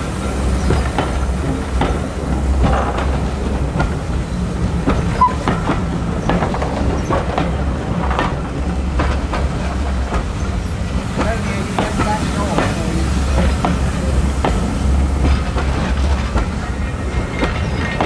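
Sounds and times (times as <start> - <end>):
train coaches rumbling past: 0.0 - 18.0
wheels clicking over rail joints: 0.6 - 18.0.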